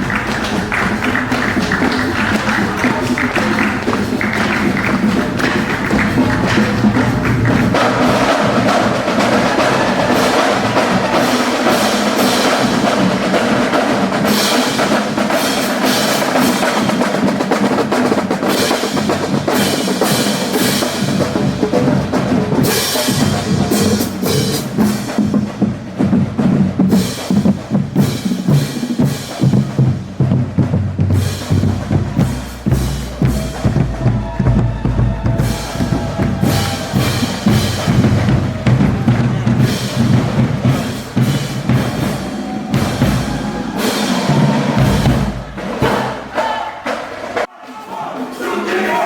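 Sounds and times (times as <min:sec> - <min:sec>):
snare and bass drums: 0:00.0 - 0:47.5
marching band playing: 0:00.0 - 0:49.0.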